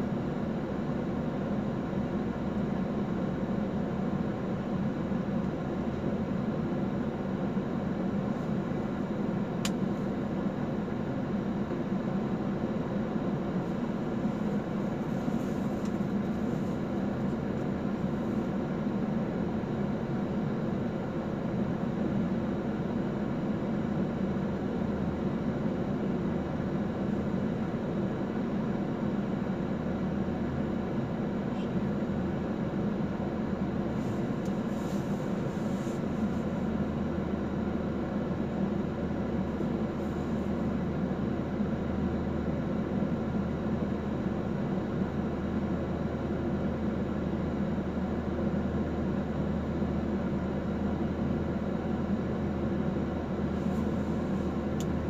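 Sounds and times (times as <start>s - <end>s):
car engine hum from inside: 0.0s - 55.0s.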